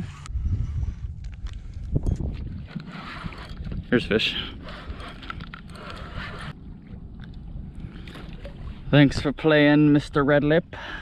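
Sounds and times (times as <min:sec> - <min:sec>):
wind rumble on microphone: 0:00.0 - 0:10.3.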